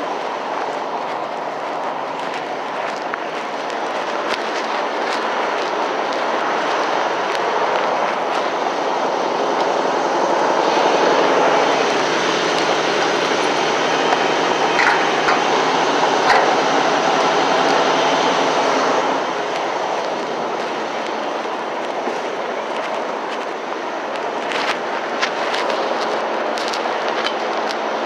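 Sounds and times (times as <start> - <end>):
fuel rushing from pump nozzle: 0.0 - 28.0.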